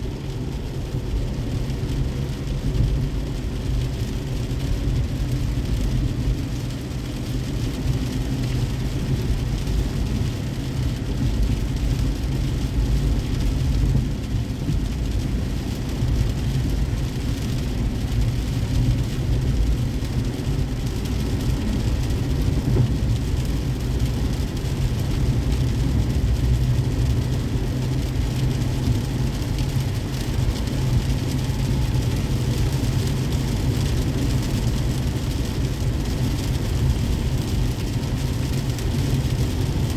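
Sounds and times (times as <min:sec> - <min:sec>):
car road rumble: 0:00.0 - 0:39.9
rain and wet tyres hissing: 0:00.0 - 0:39.9.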